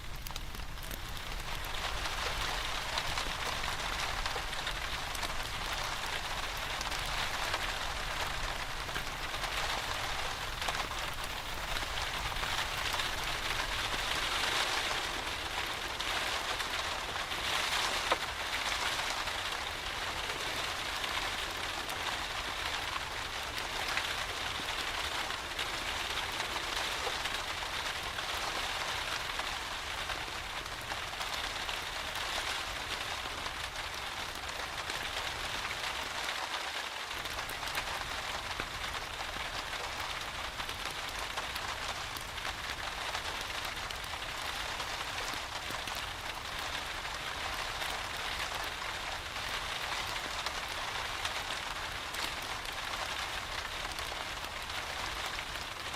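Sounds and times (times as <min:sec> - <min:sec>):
rain drops ticking: 0:00.0 - 0:55.9.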